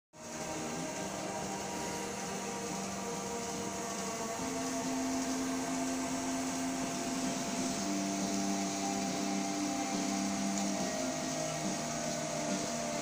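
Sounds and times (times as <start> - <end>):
electric motors humming: 0.2 - 13.0.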